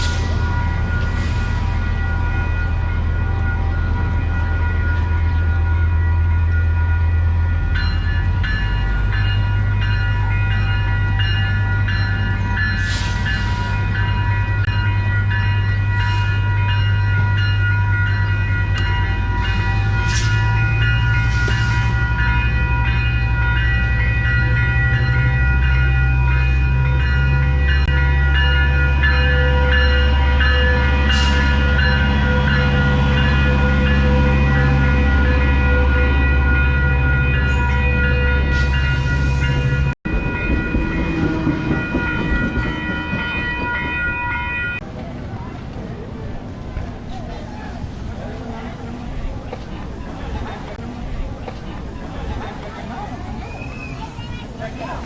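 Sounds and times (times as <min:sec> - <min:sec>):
diesel train engine drone: 0:00.0 - 0:55.0.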